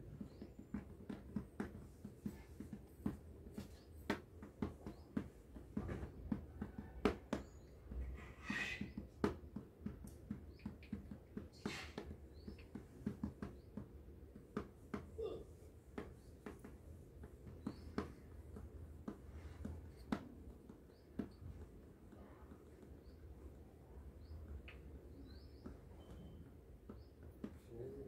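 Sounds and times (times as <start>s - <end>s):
paintbrush tapping on taut cloth: 0.0s - 8.2s, 8.8s - 28.0s.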